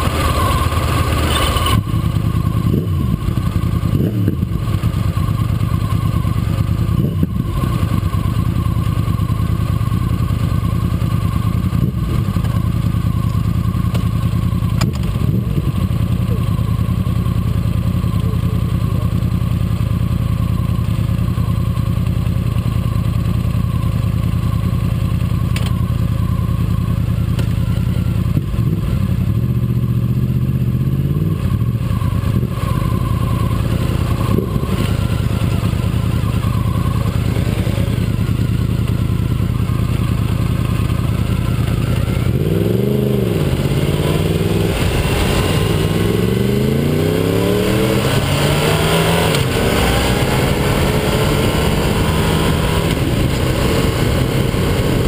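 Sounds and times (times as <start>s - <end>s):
motorcycle engines idling: 0.0s - 48.5s, 49.2s - 55.0s.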